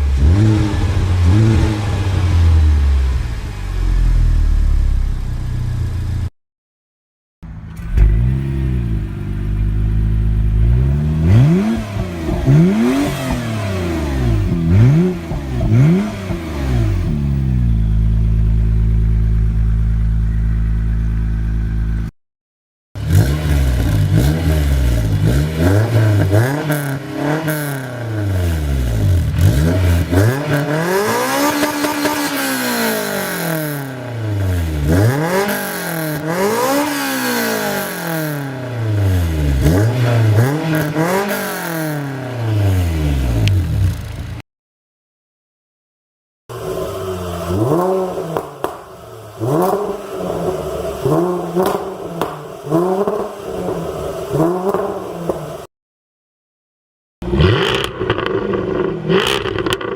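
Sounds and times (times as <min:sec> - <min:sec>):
another car engine revving: 0:00.0 - 0:06.3, 0:07.4 - 0:22.1, 0:23.0 - 0:44.4, 0:46.5 - 0:55.7, 0:57.2 - 0:59.9
car engine revving: 0:00.0 - 0:06.3, 0:07.5 - 0:22.1, 0:23.0 - 0:44.4, 0:46.5 - 0:55.7, 0:57.2 - 0:59.9.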